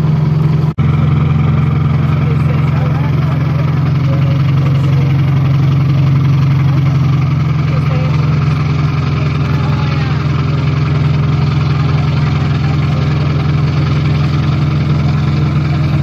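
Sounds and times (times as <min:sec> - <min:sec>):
boat engine low drone: 0:00.0 - 0:16.0.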